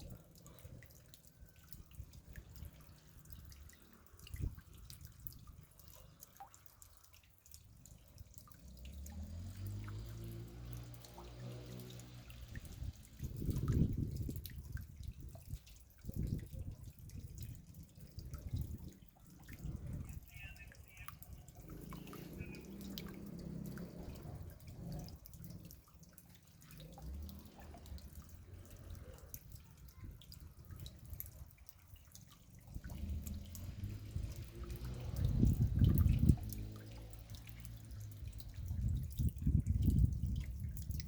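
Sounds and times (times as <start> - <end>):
rain drops ticking: 0.0 - 41.0.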